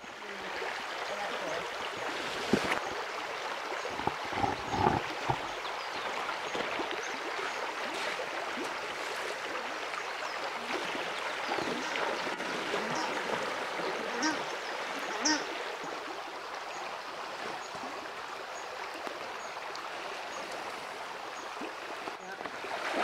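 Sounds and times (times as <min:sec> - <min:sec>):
stream running over gravel: 0:00.0 - 0:23.0.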